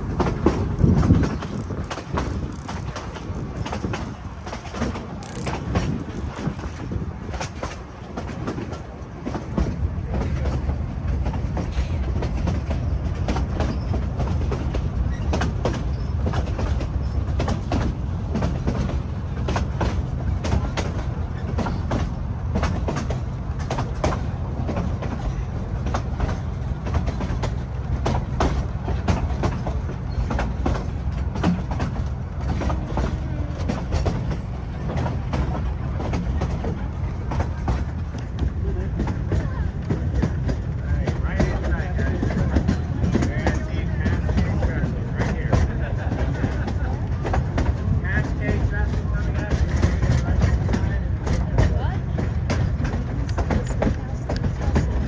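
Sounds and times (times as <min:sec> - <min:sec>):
train rumble: 0:00.0 - 0:55.0
wheels clacking on rails: 0:00.0 - 0:55.0.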